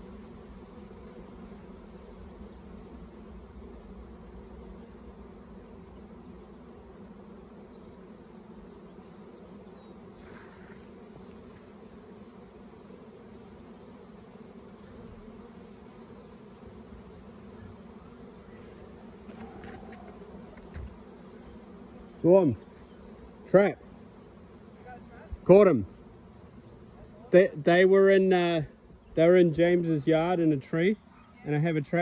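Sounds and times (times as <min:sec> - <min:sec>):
bee swarm humming: 0:00.0 - 0:32.0.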